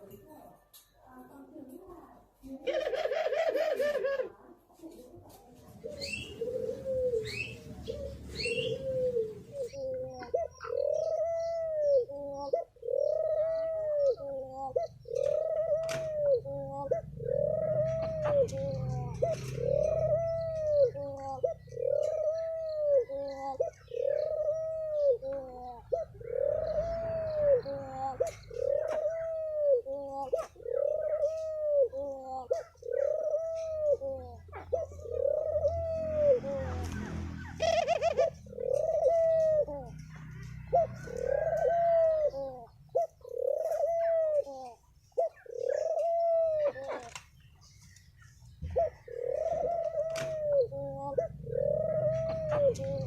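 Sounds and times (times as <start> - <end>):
dove cooing: 2.4 - 53.0.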